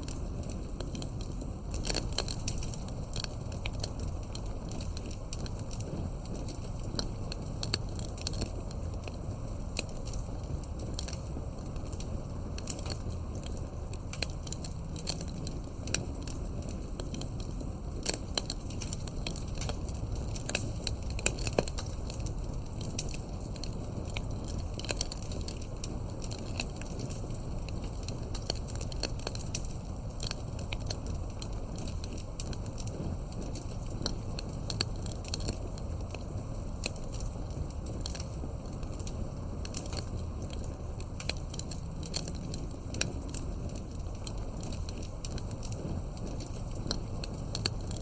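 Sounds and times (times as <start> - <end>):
campfire low rumble: 0.0 - 48.0
campfire snapping and popping: 0.0 - 48.0.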